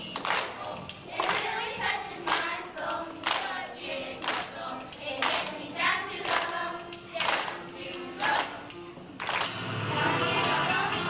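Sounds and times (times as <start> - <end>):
children's choir singing: 0.0 - 11.0
rhythmic hand claps: 0.0 - 11.0.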